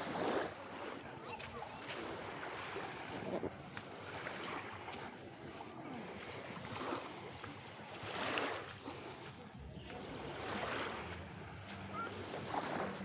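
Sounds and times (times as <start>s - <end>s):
small waves washing onto beach: 0.0s - 13.0s.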